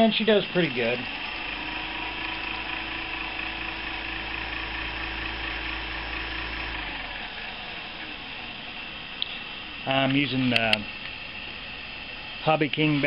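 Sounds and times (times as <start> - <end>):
electric propeller motor spinning: 0.0 - 13.0.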